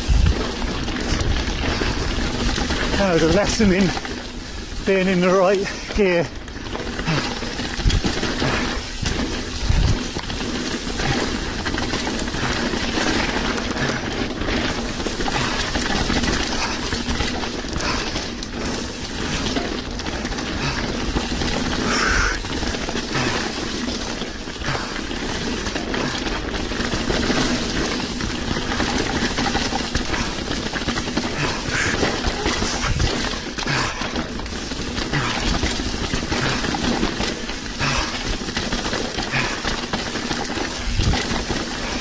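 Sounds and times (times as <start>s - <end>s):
bike rattling over stones: 0.0s - 42.0s.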